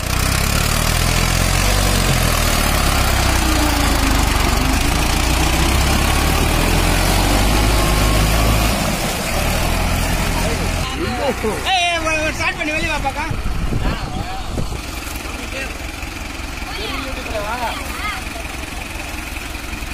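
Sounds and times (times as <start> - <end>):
tractor diesel engine under load: 0.0 - 19.9.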